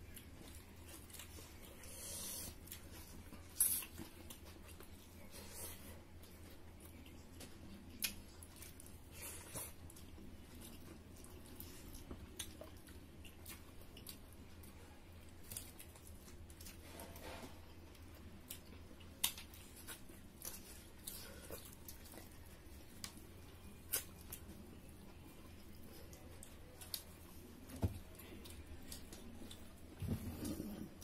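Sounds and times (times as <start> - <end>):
low steady hum: 0.0 - 31.0
people chewing with wet smacks: 0.0 - 31.0.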